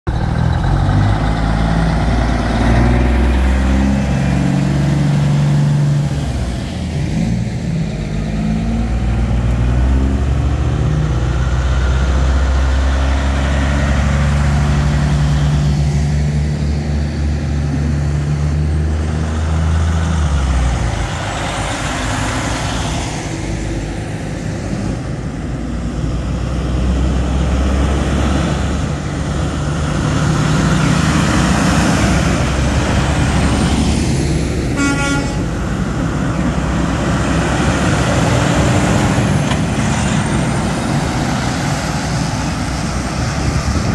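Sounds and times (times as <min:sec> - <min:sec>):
trucks passing with diesel engines: 0:00.1 - 0:43.9.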